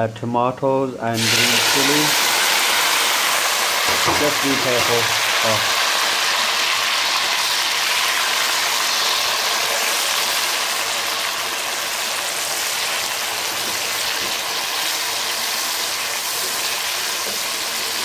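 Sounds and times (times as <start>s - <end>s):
vegetables sizzling in hot oil: 1.2s - 18.0s.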